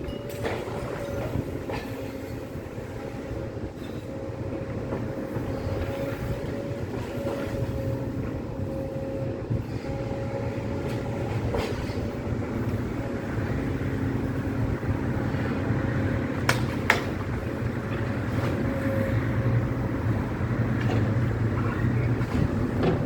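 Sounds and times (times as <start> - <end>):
diesel engine rumble: 0.0 - 23.0.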